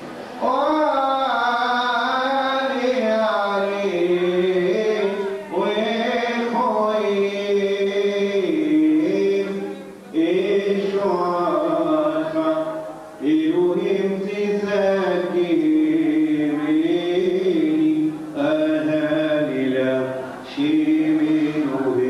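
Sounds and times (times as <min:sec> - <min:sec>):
man chanting through microphone: 0:00.2 - 0:22.0.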